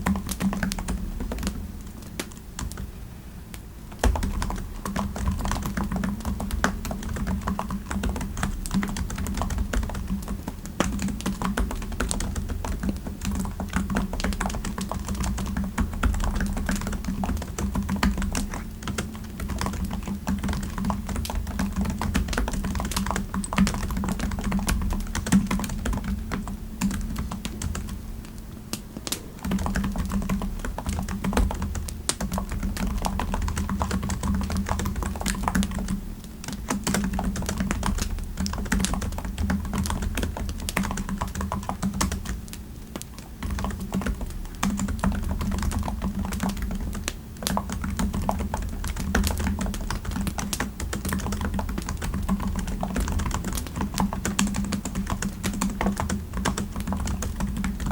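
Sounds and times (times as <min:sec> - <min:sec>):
computer keyboard typing: 0:00.0 - 0:02.9, 0:04.0 - 0:57.9.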